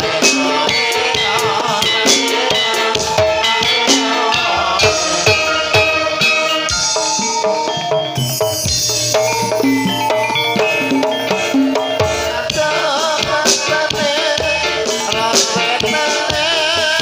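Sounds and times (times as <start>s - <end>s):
wavering high melody line: 0.0s - 16.8s
drums and rattling percussion: 0.0s - 17.0s
gamelan-style music: 0.0s - 17.0s
struck pitched instruments: 0.0s - 17.0s.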